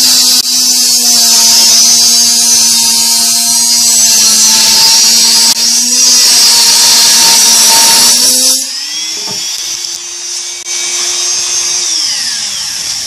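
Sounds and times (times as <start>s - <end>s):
rotary tool grinding metal: 0.0s - 13.0s
rotary tool motor whine: 0.0s - 13.0s.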